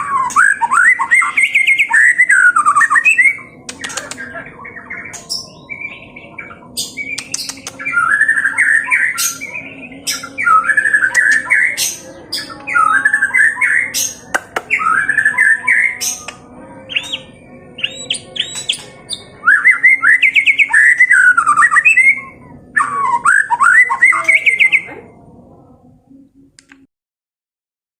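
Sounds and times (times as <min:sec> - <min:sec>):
bird song with clicks and whistles: 0:00.0 - 0:24.9.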